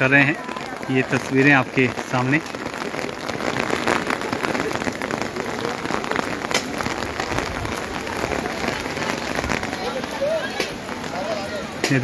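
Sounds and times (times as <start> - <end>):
heavy rain on pavement: 0.0 - 12.0.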